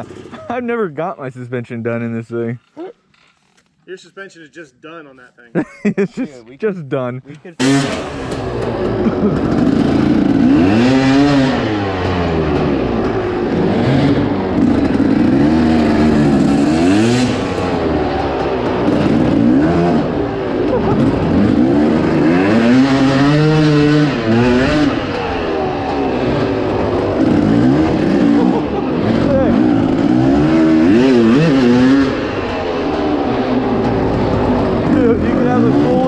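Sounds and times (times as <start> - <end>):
dirt bike engine revving: 0.0 - 0.5, 7.6 - 36.0.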